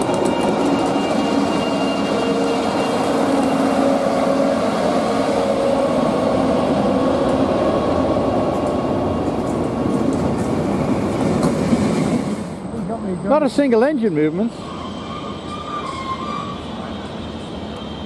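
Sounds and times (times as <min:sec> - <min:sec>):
train rolling on tracks: 0:00.0 - 0:18.0.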